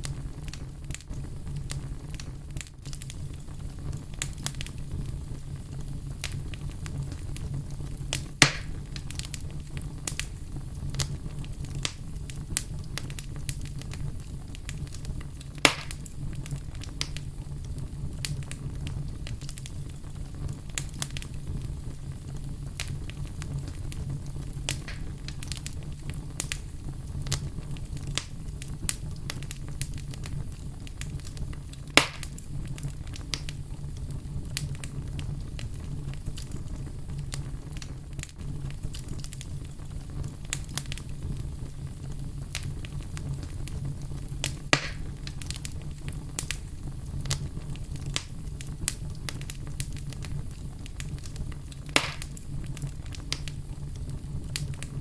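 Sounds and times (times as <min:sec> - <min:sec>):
fire sharp pops: 0:00.0 - 0:55.0
wood fire rumbling and crackling: 0:00.0 - 0:55.0.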